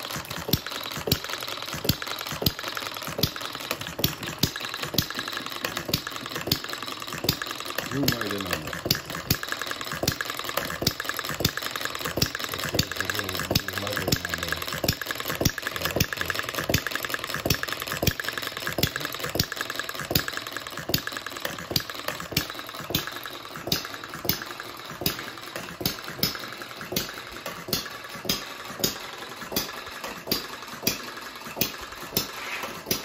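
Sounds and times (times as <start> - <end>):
model engine clicking: 0.0 - 33.0.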